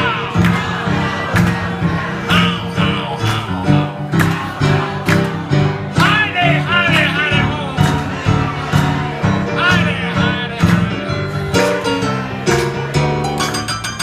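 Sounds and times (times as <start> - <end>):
blues piano: 0.0 - 14.0.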